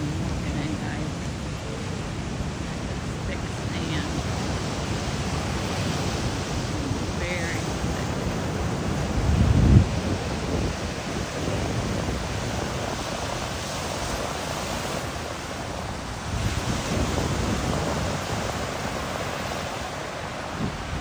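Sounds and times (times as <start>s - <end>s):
ocean surf breaking: 0.0s - 21.0s
wind rumbling on microphone: 0.0s - 21.0s.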